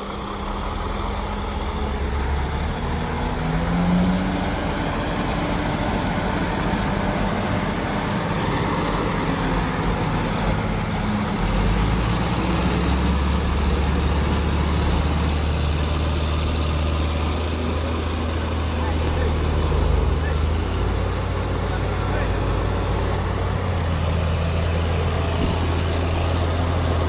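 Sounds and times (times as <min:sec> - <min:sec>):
deep low engine note: 0:00.0 - 0:27.0
heavy truck engine running: 0:00.0 - 0:27.0.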